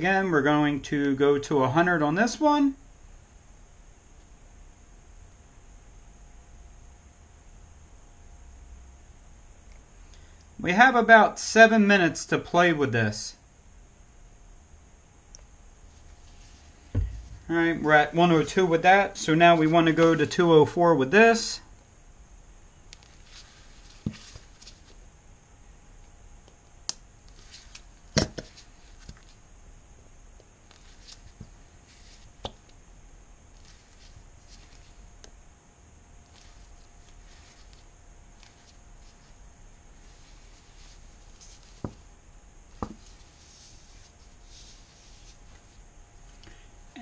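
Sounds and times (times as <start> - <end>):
faint room hum: 0.0 - 47.0.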